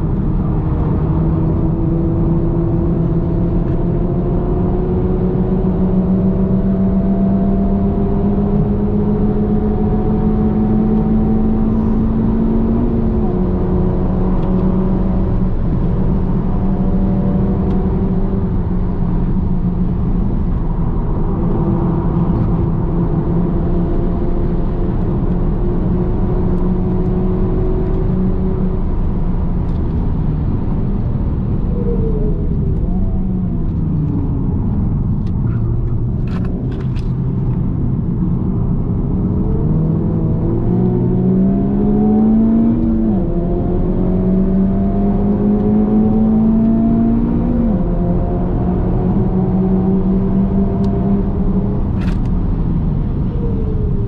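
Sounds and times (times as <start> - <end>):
car engine heard from cabin: 0.0 - 54.0.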